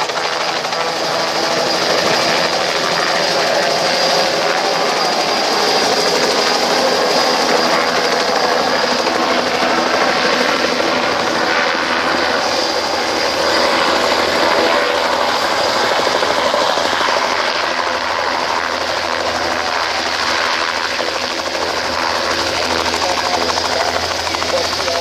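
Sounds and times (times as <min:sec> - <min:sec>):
helicopter rotor chop: 0:00.0 - 0:25.0
helicopter turbine whine: 0:00.0 - 0:25.0.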